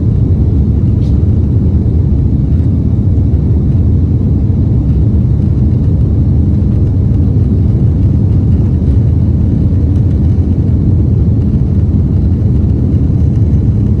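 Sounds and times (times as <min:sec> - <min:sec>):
jet engines and rushing air rumble: 0:00.0 - 0:14.0.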